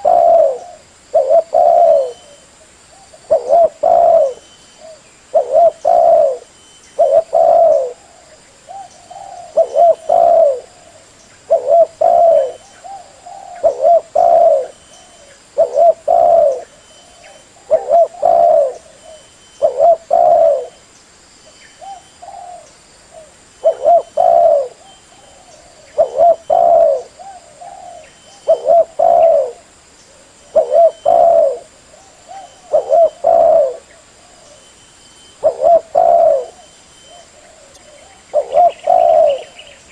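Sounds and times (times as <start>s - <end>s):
dove cooing: 0.0s - 20.8s, 21.8s - 39.9s.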